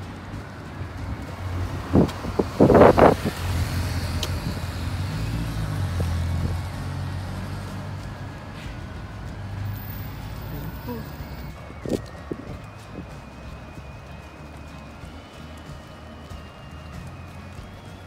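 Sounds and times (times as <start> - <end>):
vehicle engine passing: 0.0 - 18.0.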